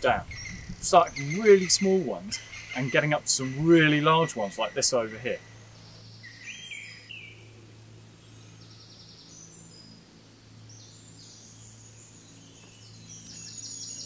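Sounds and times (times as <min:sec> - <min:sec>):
small birds trilling: 0:00.0 - 0:14.0.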